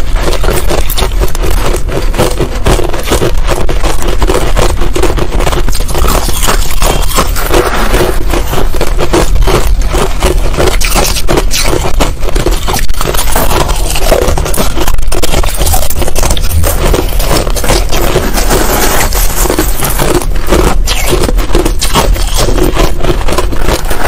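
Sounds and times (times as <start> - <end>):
crushed ice being chewed: 0.0 - 24.0.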